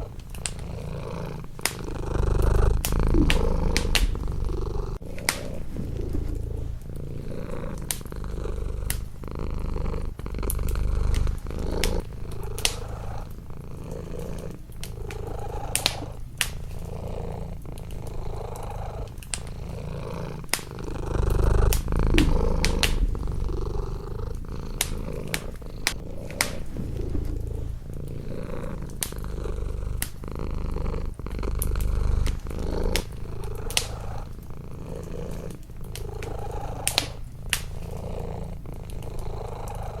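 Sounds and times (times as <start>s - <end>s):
cat purring: 0.0s - 40.0s
wood fire crackling and popping: 0.0s - 40.0s.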